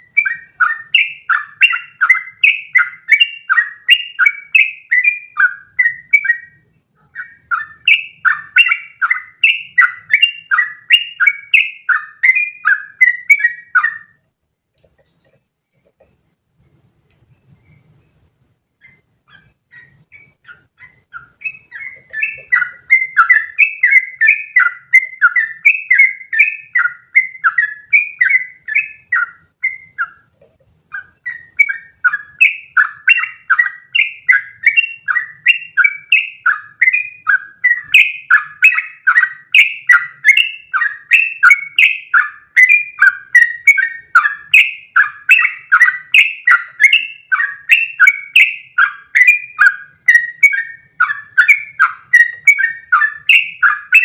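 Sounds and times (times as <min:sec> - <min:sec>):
bird singing bubbly notes: 0:00.0 - 0:14.2, 0:17.3 - 0:30.3, 0:30.9 - 0:54.0.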